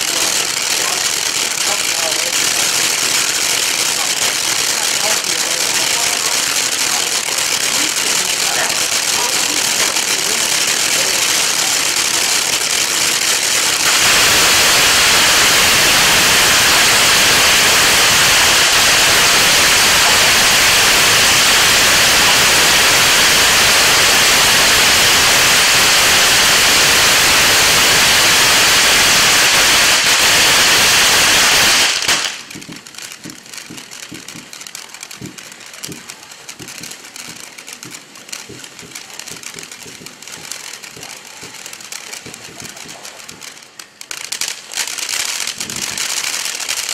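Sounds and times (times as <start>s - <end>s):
firework crackling: 0.0s - 46.9s
firework fountain hissing: 0.0s - 46.9s.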